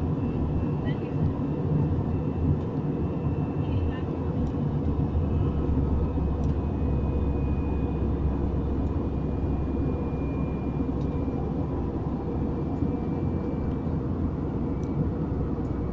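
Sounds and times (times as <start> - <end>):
airliner engine drone: 0.0 - 15.9.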